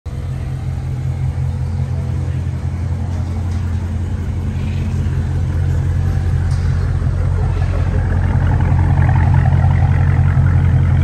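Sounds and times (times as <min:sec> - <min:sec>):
car engine idling: 0:00.1 - 0:11.0.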